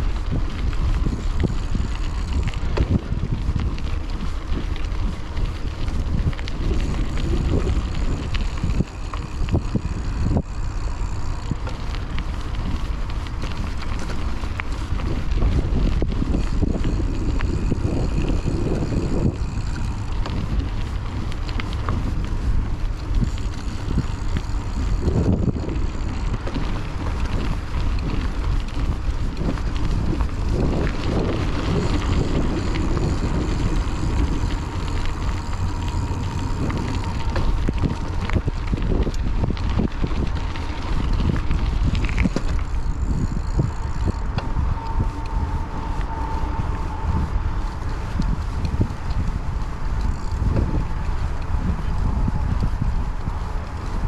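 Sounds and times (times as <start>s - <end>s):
bike rattles and clicks: 0.0s - 54.0s
bike rolling on dirt trail: 0.0s - 54.0s
wind buffeting microphone: 0.0s - 54.0s.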